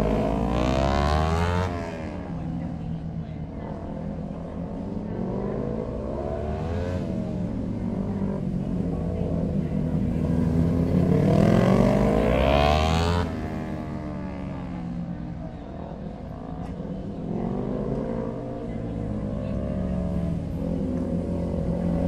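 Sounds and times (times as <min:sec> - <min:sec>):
motorcycle engine accelerating: 0:00.0 - 0:03.0, 0:03.6 - 0:22.0.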